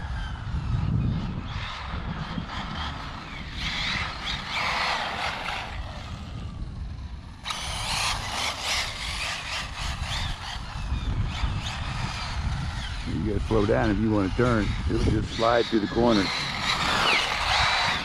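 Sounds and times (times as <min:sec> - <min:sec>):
rc car motor whining: 0:00.0 - 0:18.0.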